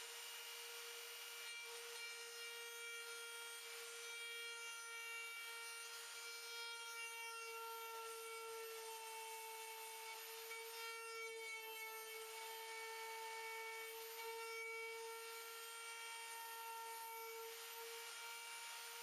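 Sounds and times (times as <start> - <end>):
saw rasping through wood: 0.0 - 19.0
woodworking machine motor whine: 0.0 - 19.0.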